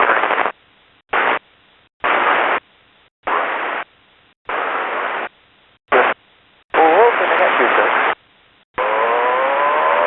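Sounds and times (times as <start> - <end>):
radio static hiss bursts: 0.0 - 8.6.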